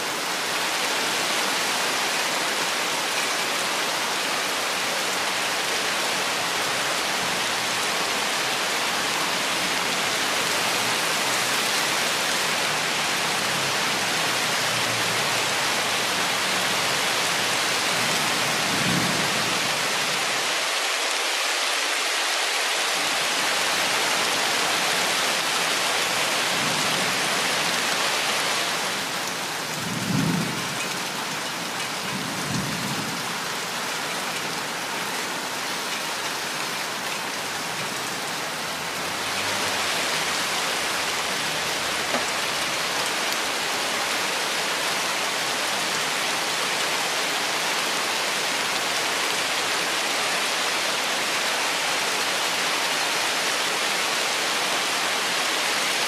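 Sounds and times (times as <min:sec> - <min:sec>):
rain on foliage: 0:00.0 - 0:56.0.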